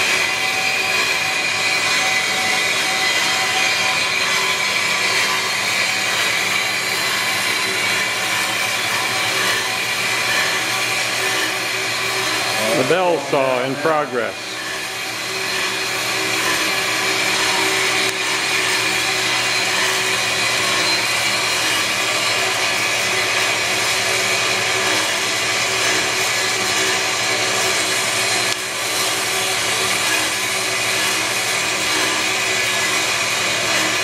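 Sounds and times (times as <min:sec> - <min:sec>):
bandsaw cutting metal: 0:00.0 - 0:34.0.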